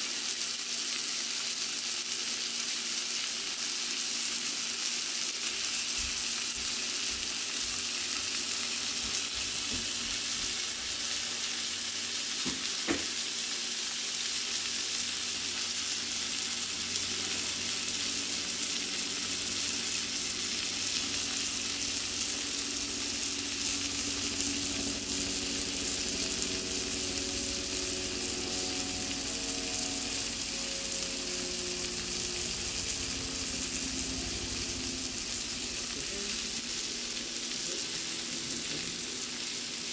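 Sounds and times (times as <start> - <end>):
fish sizzling in a pan: 0.0 - 39.9.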